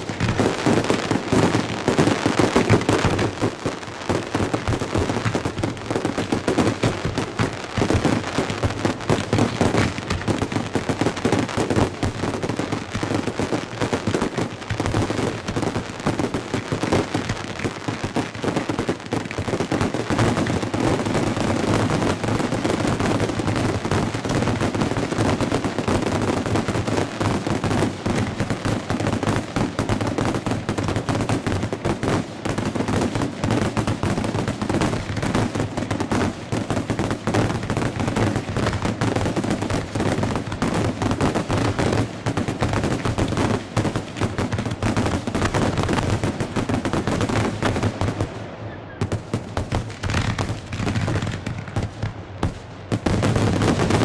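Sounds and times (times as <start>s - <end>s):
fireworks launches and bursts: 0.0s - 54.0s.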